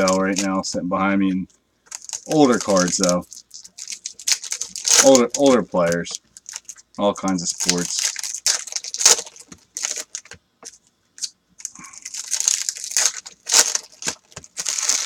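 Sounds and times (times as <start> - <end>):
foil wrapper tearing and crinkling: 0.0 - 0.6, 1.9 - 10.4, 11.2 - 15.0.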